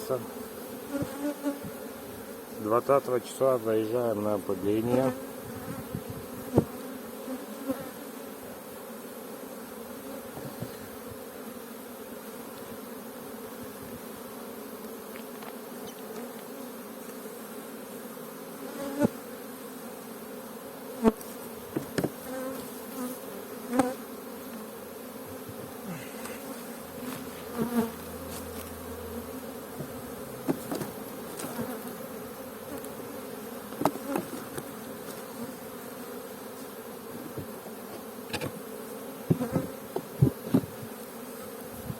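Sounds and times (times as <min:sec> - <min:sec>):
honeybees humming: 0:00.0 - 0:41.9.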